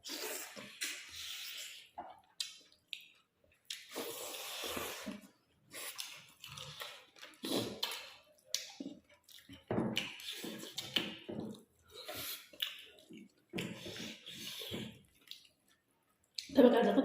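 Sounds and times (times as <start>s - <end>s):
people chewing food: 0.0s - 16.9s.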